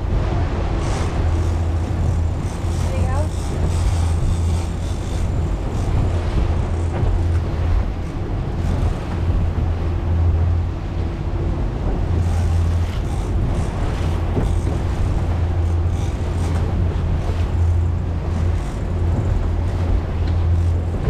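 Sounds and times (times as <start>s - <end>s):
boat engines humming: 0.0s - 21.0s
sea water washing: 0.0s - 21.0s
wind buffeting microphone: 0.0s - 21.0s.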